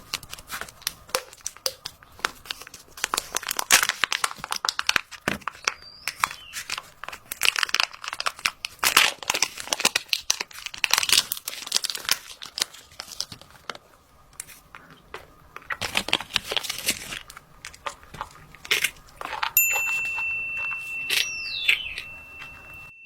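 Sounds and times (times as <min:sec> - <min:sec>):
crinkling and crackling: 0:00.0 - 0:22.9.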